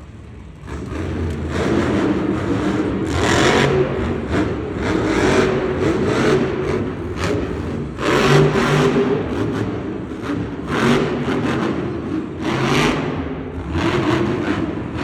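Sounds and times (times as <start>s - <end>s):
truck engine revving hard: 0.6s - 15.0s.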